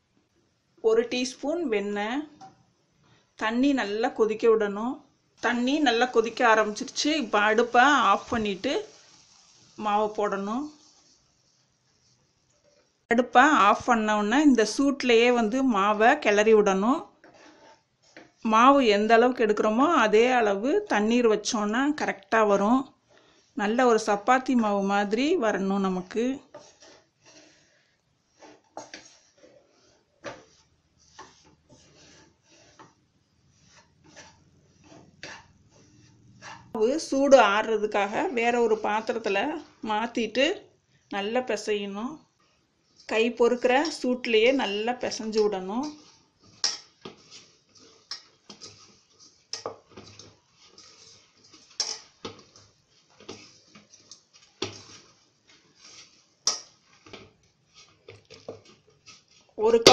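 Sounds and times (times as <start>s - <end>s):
wooden spatula scraping steel pan: 5.4s - 59.9s.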